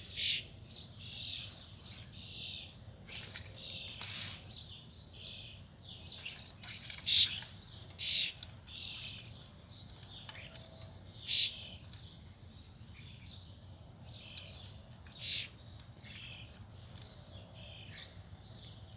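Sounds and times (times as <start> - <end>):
songbirds chirping: 0.0 - 18.9.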